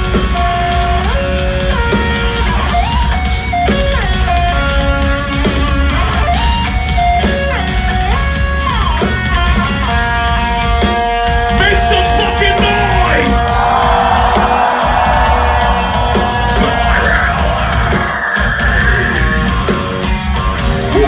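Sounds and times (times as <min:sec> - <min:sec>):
live metal band playing: 0:00.0 - 0:21.0.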